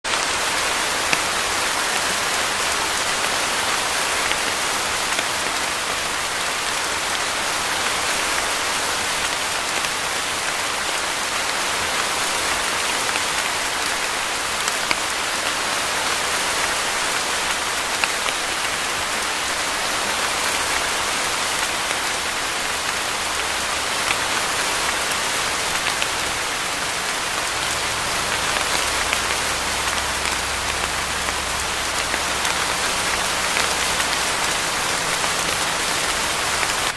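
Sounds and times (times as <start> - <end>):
heavy rain hissing: 0.1 - 36.9.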